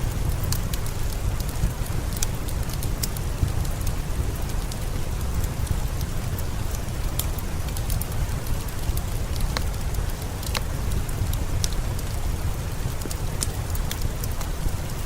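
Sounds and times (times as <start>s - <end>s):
fireplace crackling: 0.0s - 15.0s
steady rain: 0.0s - 15.0s.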